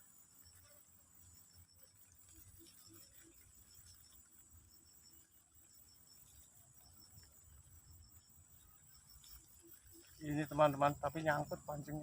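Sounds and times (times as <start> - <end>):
insect chirps: 0.0 - 12.0
insects buzzing: 0.0 - 12.0.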